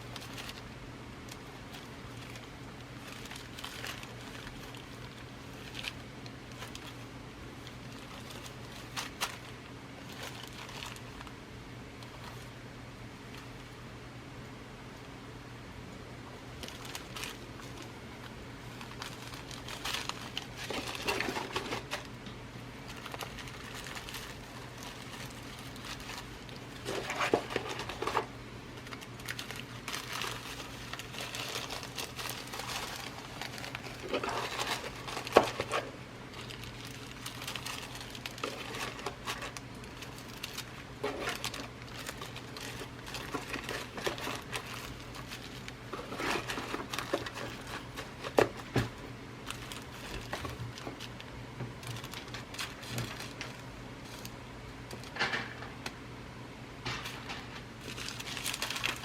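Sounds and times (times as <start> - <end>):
packaging crinkling: 0.0 - 12.6, 16.4 - 56.0, 56.9 - 59.0.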